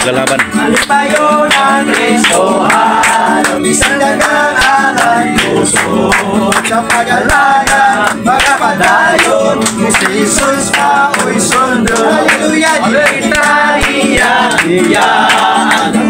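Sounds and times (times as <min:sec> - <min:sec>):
hands clapping in time: 0:00.0 - 0:16.0
men singing together: 0:00.5 - 0:16.0.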